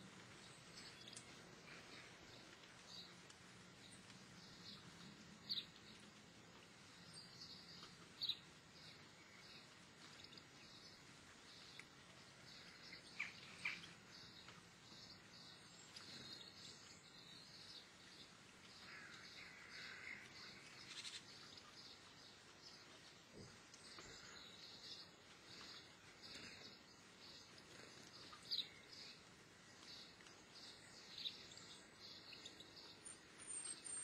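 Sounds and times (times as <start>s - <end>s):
songbirds chirping: 0.0s - 34.0s.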